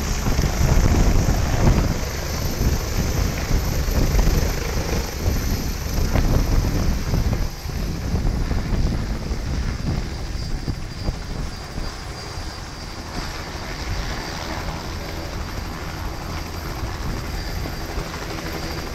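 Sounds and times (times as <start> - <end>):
helicopter rotor and engine rumble: 0.0 - 18.9
steady high whine: 0.0 - 18.9.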